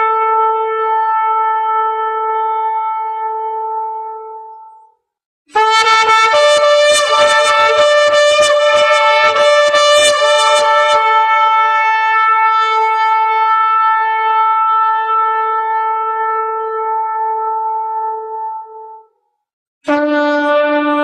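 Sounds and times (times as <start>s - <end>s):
shofar blast: 0.0s - 4.4s, 5.5s - 19.1s, 19.9s - 21.0s.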